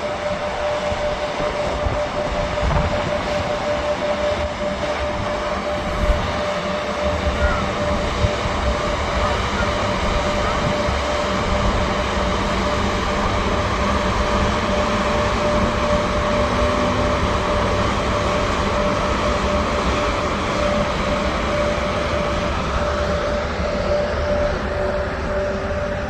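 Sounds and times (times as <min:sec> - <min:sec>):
electric locomotive whine: 0:00.0 - 0:26.0
train rumble: 0:00.0 - 0:26.0.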